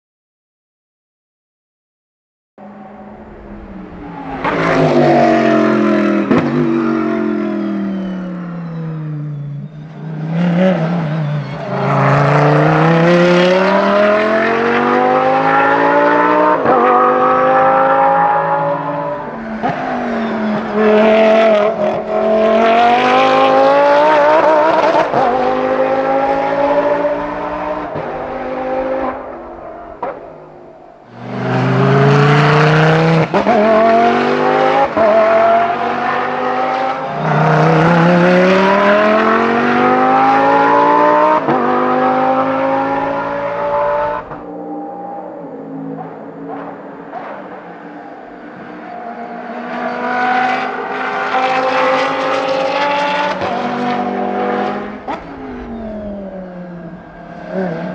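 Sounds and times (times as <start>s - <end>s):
race car accelerating with upshifts: 2.6s - 57.9s.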